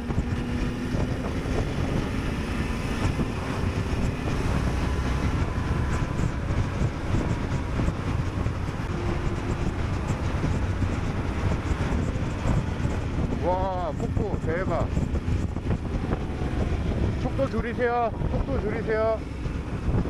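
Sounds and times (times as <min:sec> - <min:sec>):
motorcycle engine and road rumble: 0:00.0 - 0:20.0
wind rushing over microphone: 0:00.0 - 0:20.0.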